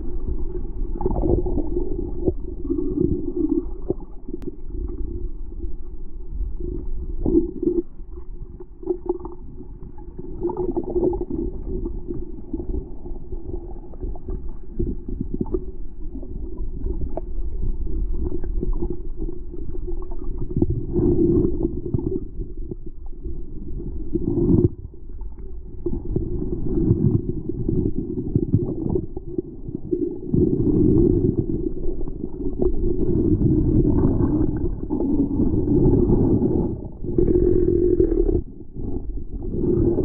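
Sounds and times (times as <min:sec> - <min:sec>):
underwater rumble and churning water: 0:00.0 - 0:40.0.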